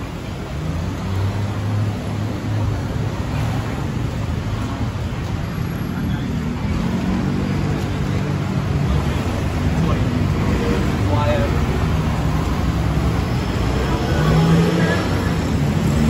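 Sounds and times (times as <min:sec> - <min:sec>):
motorbike and car engines: 0:00.0 - 0:16.0
road noise: 0:00.0 - 0:16.0.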